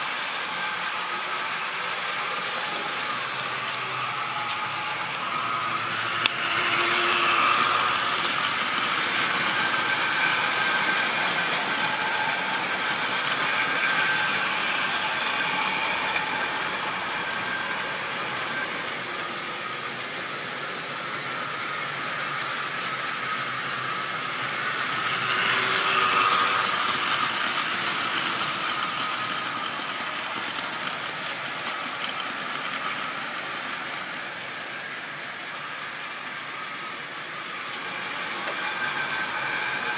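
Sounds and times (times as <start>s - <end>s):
model train motor whirring: 0.0s - 39.9s
wheels running on rails: 0.0s - 39.9s.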